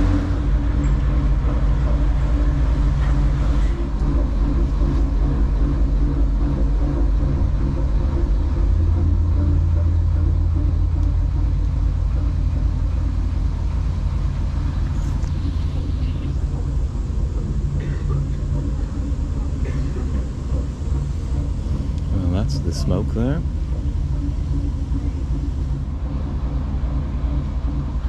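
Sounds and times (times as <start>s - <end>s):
boat diesel engine humming: 0.0s - 28.0s.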